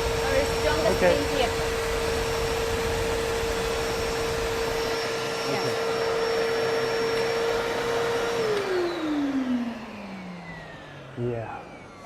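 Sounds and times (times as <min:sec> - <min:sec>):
steam vacuum cleaner running: 0:00.0 - 0:12.0.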